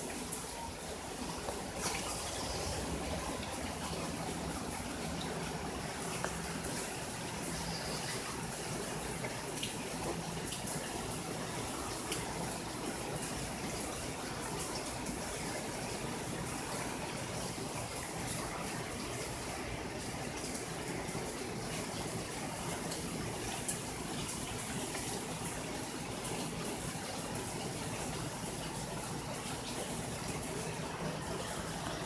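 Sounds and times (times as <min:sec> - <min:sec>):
rain on foliage: 0:00.0 - 0:32.0.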